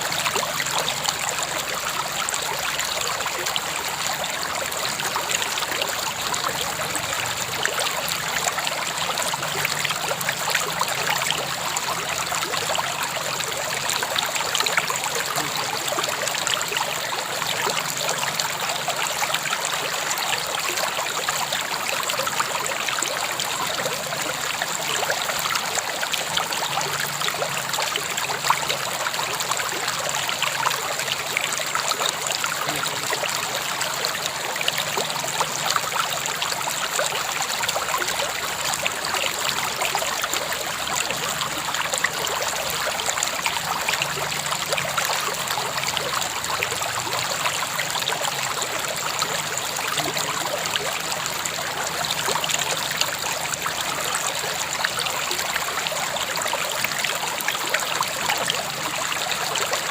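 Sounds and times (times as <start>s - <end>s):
river water flowing over stones: 0.0s - 59.9s
small splashes and trickles: 0.0s - 59.9s.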